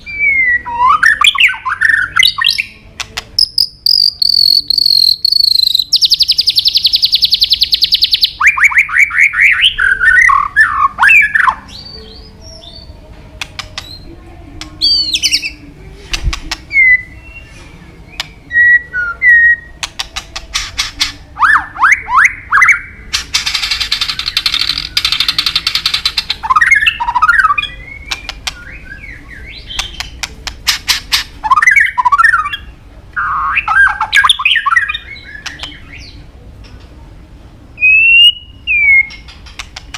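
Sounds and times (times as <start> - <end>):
bird singing varied song: 0.0 - 36.9, 37.8 - 39.9.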